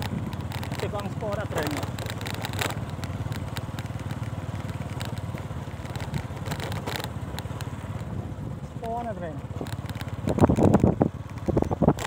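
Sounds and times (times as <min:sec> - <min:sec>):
knocks and rattles: 0:00.0 - 0:08.1, 0:08.8 - 0:12.0
motorcycle engine running: 0:00.0 - 0:12.0.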